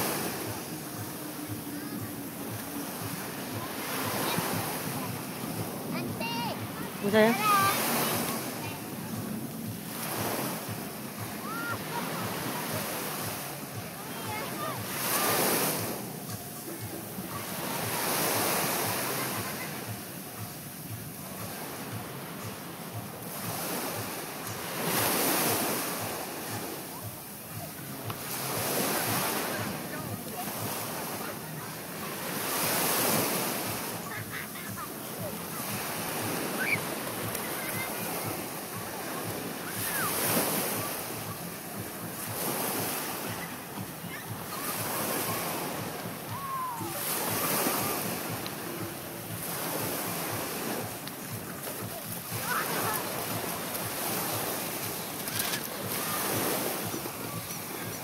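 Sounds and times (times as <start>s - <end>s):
surf washing on beach: 0.0s - 58.0s.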